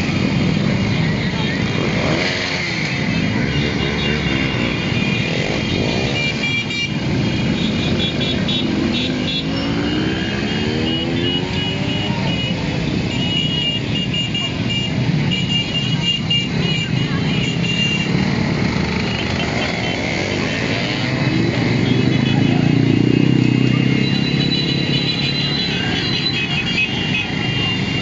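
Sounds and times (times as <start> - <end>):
motorcycles riding past revving: 0.0 - 13.1, 15.9 - 28.0.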